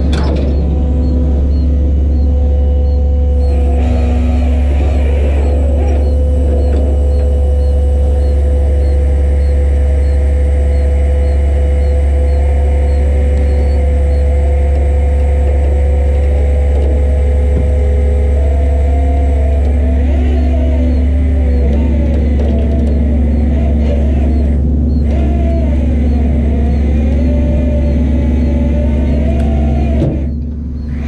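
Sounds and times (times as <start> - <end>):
constant hum: 0.0 - 31.0
vehicle engine drone: 0.0 - 31.0.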